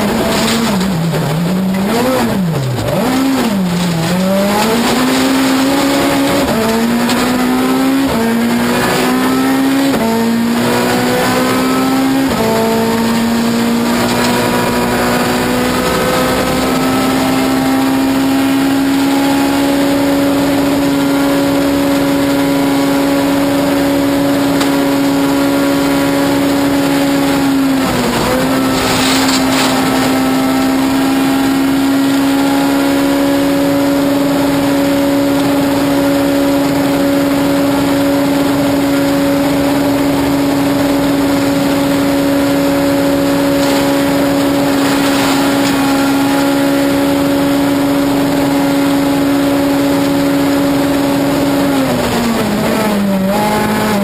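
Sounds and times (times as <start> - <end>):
rally car engine accelerating: 0.0 - 54.0.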